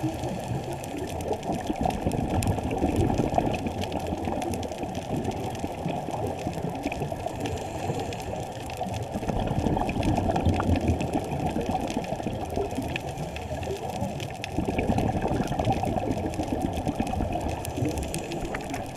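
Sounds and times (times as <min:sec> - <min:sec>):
muffled underwater bubbling: 0:00.0 - 0:18.9.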